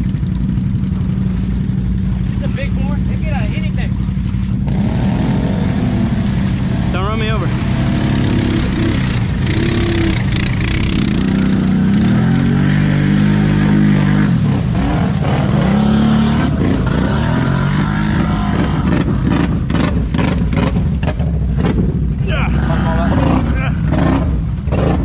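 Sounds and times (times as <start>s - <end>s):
atv engine revving: 0.0s - 25.0s
engine crackles: 0.0s - 25.0s.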